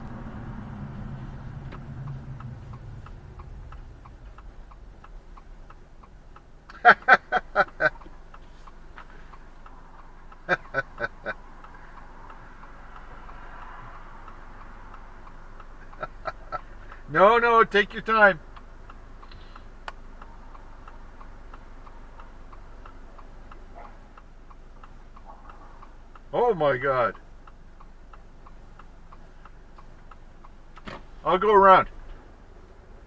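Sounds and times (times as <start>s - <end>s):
car turn signal clicking: 0.1s - 32.8s.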